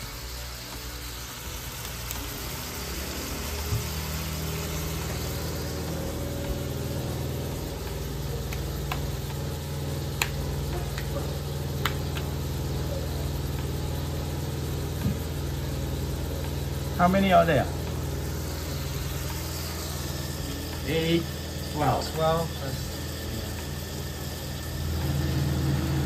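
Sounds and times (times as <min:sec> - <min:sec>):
faint sizzling: 0:00.0 - 0:26.0
low motor hum: 0:00.0 - 0:26.0.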